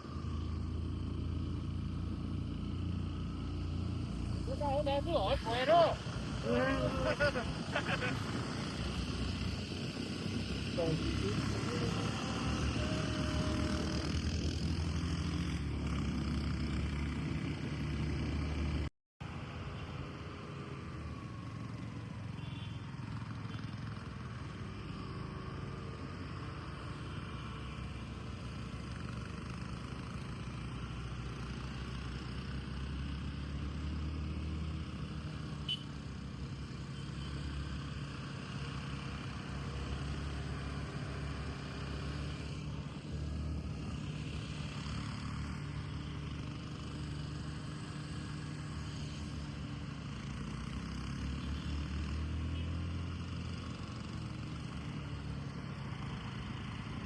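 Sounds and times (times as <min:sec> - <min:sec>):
road vehicle rumbling: 0:00.0 - 0:57.0.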